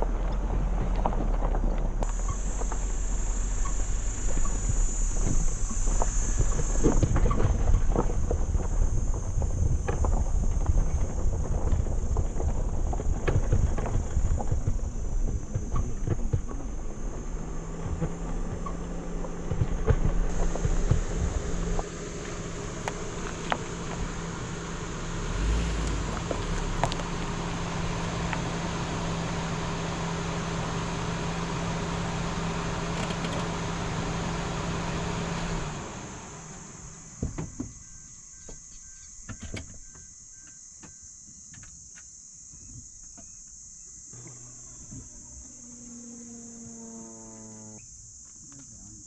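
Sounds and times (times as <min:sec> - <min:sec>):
motor humming: 0:02.0 - 0:37.8, 0:44.0 - 0:48.0
insects chirring: 0:02.0 - 0:49.0.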